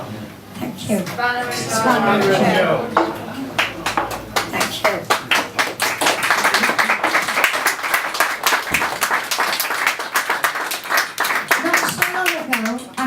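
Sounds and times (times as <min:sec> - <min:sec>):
audience applauding: 0:01.7 - 0:13.0.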